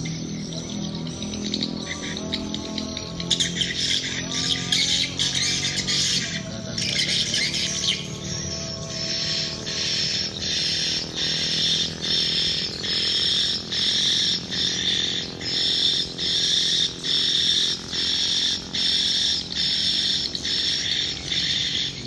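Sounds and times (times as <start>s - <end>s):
swiftlets chirping: 0.0s - 22.0s.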